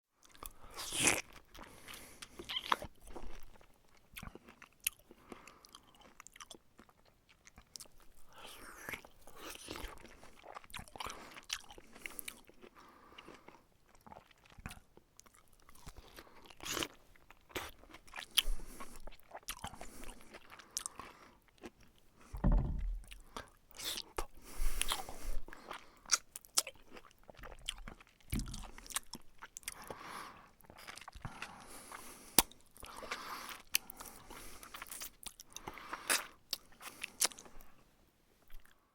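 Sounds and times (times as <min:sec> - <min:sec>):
wet chewing: 0:00.2 - 0:22.0, 0:22.8 - 0:37.8.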